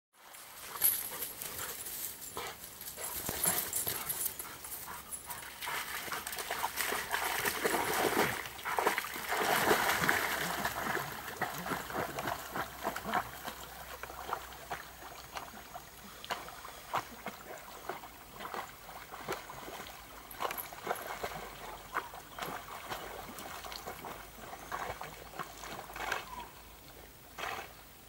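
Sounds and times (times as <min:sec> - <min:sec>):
dog splashing while swimming: 0:03.2 - 0:26.4.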